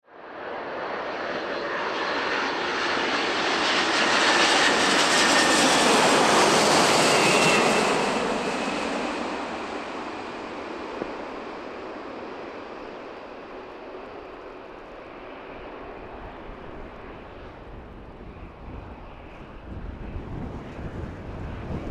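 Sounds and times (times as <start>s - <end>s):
jet engines flying past: 0.1s - 21.9s.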